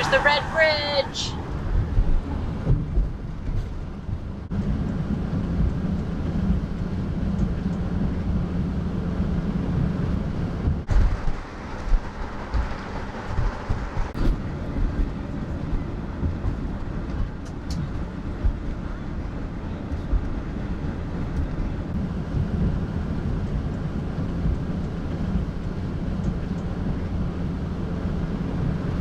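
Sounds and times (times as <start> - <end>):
van engine and road rumble: 0.0 - 29.0.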